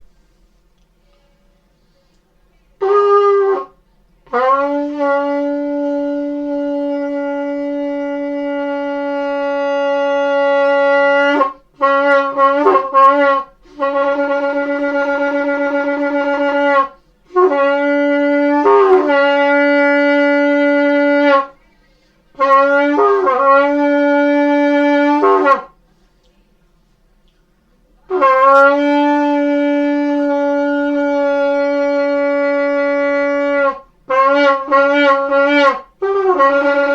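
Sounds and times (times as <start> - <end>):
shofar blasts: 2.8 - 21.6, 22.3 - 25.8, 28.1 - 36.9.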